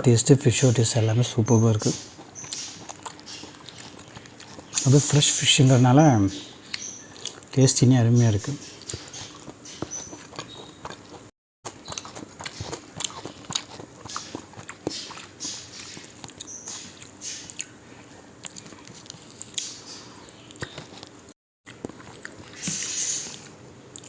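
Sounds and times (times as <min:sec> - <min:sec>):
person chewing crispy fried fish: 0:01.9 - 0:05.4, 0:06.5 - 0:07.5, 0:08.6 - 0:24.0.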